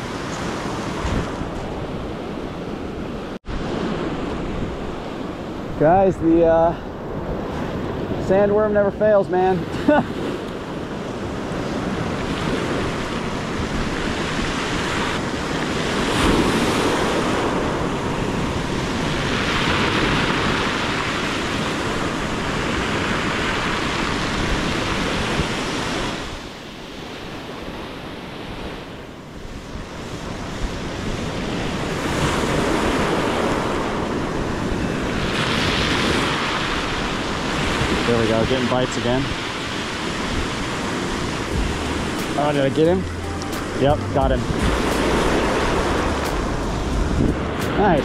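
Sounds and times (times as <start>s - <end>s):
wind buffeting microphone: 0.0s - 26.6s, 27.4s - 48.0s.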